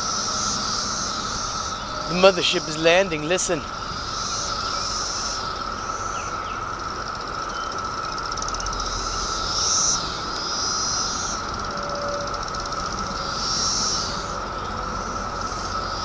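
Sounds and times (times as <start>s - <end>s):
cicadas buzzing calls: 0.0s - 16.0s
cicadas droning: 0.0s - 16.0s.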